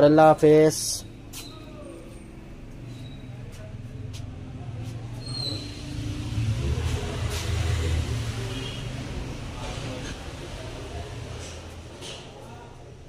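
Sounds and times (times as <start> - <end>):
shop background rumble: 0.0 - 13.0.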